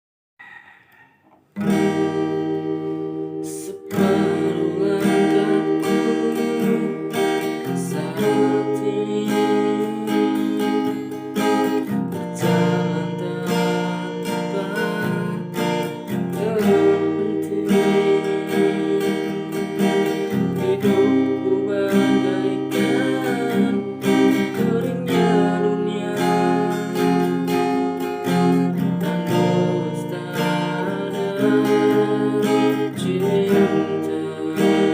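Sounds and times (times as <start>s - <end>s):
acoustic guitar strumming: 1.5s - 34.9s
person singing: 1.6s - 34.9s.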